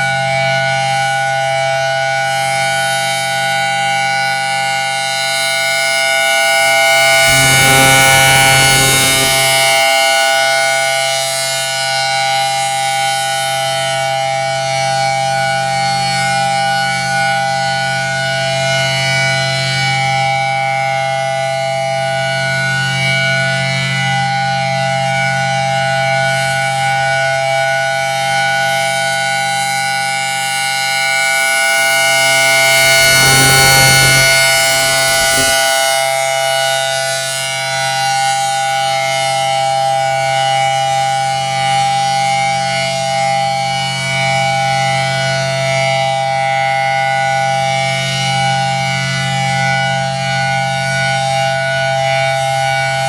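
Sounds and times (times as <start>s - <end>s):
warning siren steady tone: 0.0s - 53.0s.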